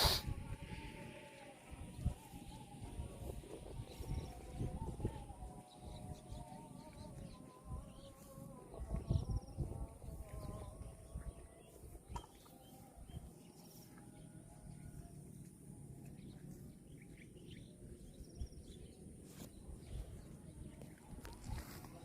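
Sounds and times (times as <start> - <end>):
birds chirping: 0.9 - 22.0.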